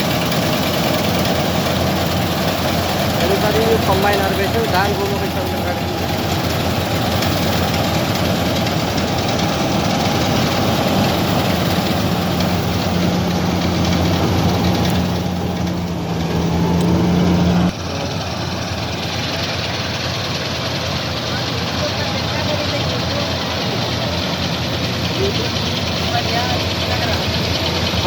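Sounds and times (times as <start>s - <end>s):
combine harvester engine running: 0.0s - 28.0s.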